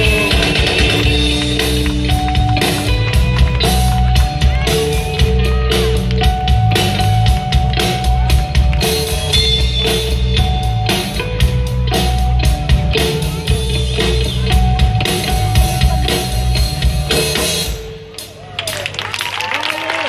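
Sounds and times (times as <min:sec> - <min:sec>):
electric guitar: 0:00.0 - 0:18.1
bass guitar: 0:00.0 - 0:18.8
drum kit: 0:00.0 - 0:18.9.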